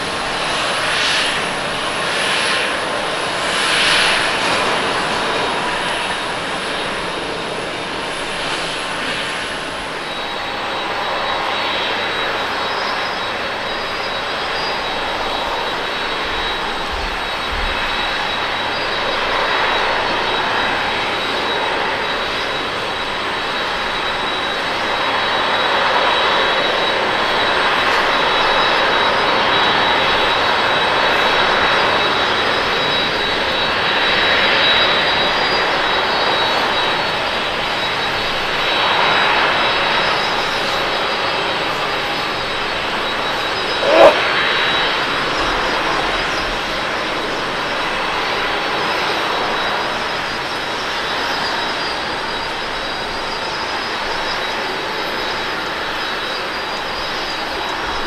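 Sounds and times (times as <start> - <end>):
jet engines: 0.0 - 58.0.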